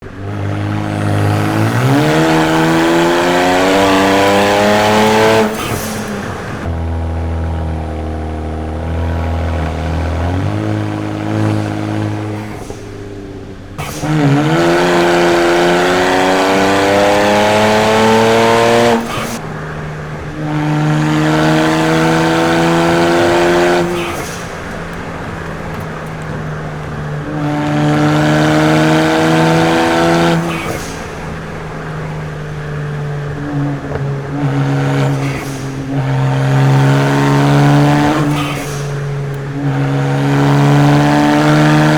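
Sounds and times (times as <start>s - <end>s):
car engine revving hard: 0.0s - 41.9s.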